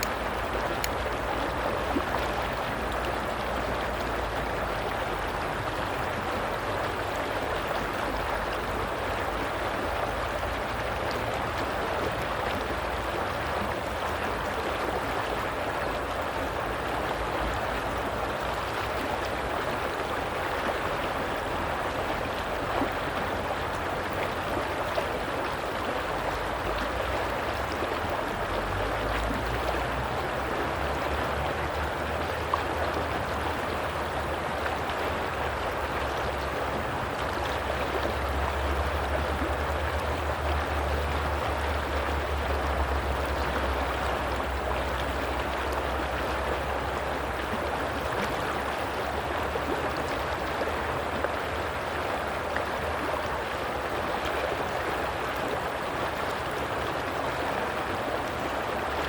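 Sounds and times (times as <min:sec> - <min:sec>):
stream water rushing and gurgling: 0:00.0 - 0:59.0.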